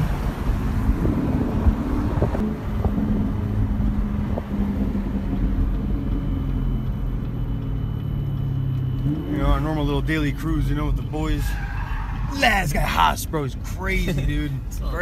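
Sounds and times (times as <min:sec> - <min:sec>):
car engine cruising: 0:00.0 - 0:15.0
road and wind noise: 0:00.0 - 0:15.0.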